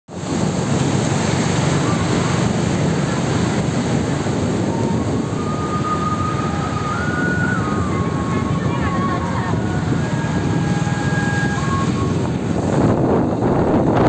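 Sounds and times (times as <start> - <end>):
tyres on wet road: 0.1 - 14.0
wind on microphone: 0.1 - 14.0.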